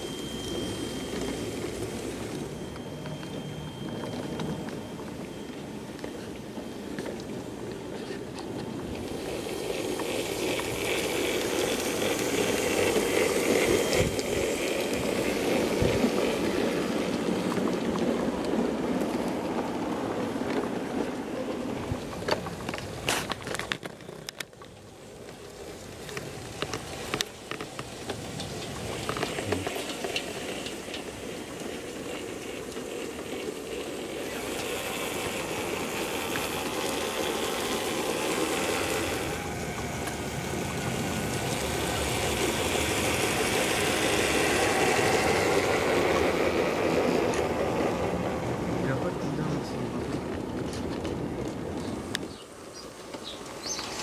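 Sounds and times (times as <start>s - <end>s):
model steam train hissing and running: 0.0s - 23.3s, 24.1s - 54.0s
wheels clicking over rail joints: 0.0s - 54.0s.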